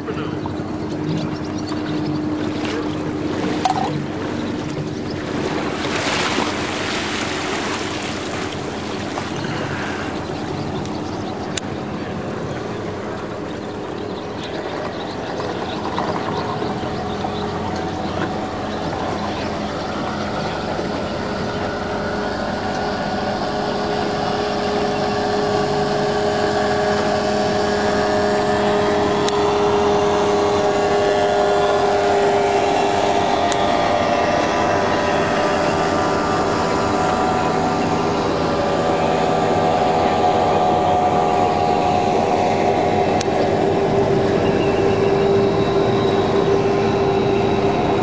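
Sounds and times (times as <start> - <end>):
outboard boat motors running: 0.0 - 48.0.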